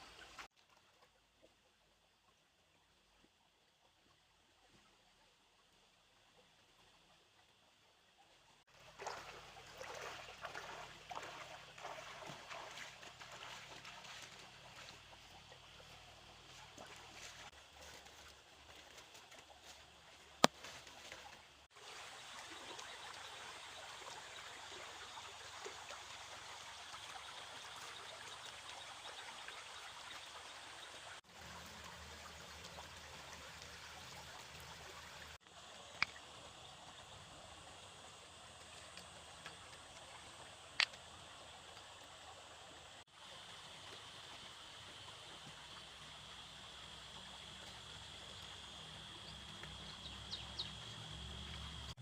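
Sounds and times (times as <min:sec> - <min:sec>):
water running and trickling: 0:08.1 - 0:52.0.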